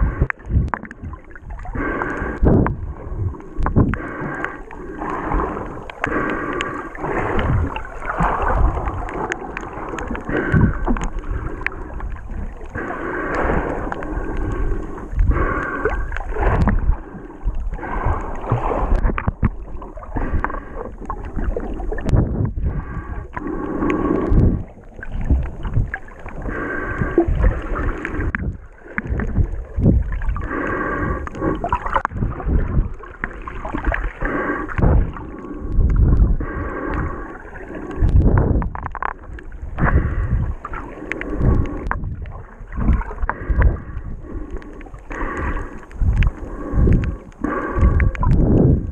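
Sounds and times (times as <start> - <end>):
muffled underwater sloshing: 0.0 - 48.9.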